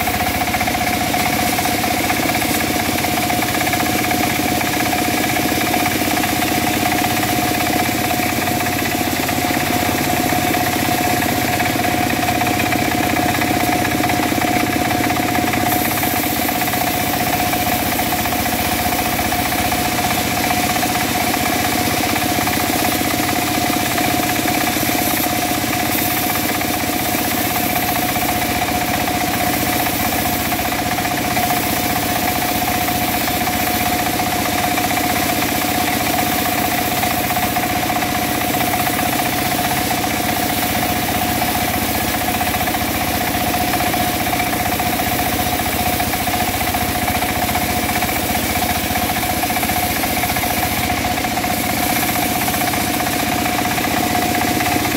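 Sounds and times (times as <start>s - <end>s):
bright hiss: 0.0s - 54.9s
engine-driven wood saw running: 0.0s - 54.9s.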